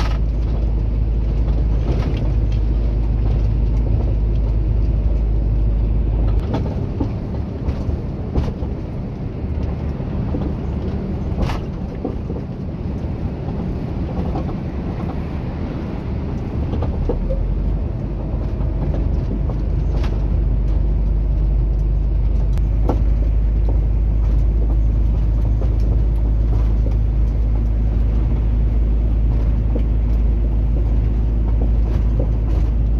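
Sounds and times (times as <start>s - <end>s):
truck engine and road noise: 0.0s - 32.9s.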